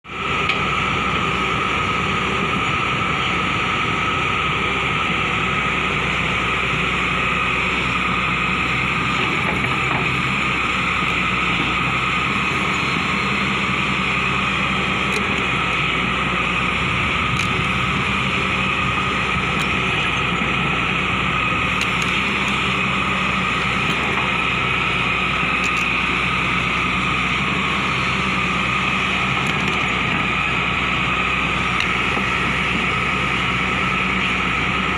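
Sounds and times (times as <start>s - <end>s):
high engine whine: 0.0s - 34.9s
excavator diesel engine rumble: 0.1s - 34.9s.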